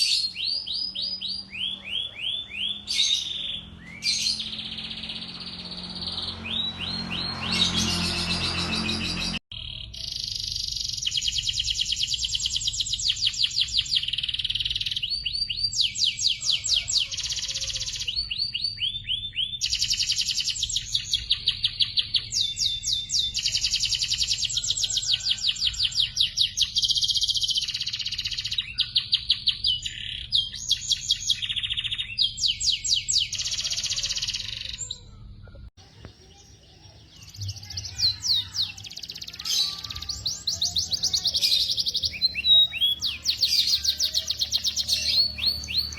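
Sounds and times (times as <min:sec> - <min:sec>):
canary singing trills: 0:00.0 - 0:35.2, 0:35.8 - 0:45.9.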